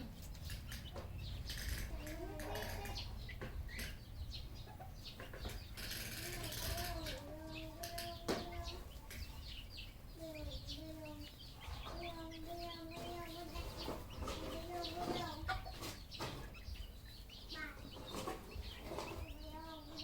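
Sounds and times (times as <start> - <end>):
wild chickens calling: 0.0 - 20.0.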